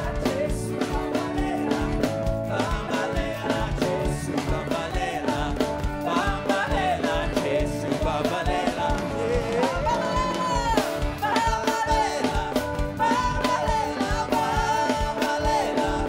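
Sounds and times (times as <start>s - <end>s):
gospel band playing: 0.0s - 16.0s
person singing: 0.0s - 16.0s.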